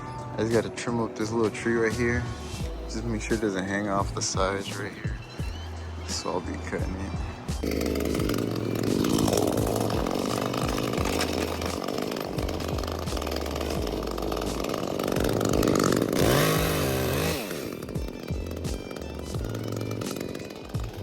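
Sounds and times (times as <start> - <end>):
background music with bass line: 0.0 - 21.0
chainsaw cutting branches: 0.0 - 21.0.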